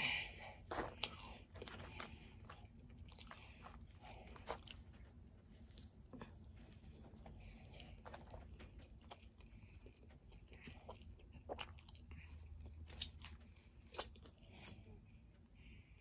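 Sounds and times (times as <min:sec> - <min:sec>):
chewing mouth clicks and smacks: 0:00.7 - 0:14.8.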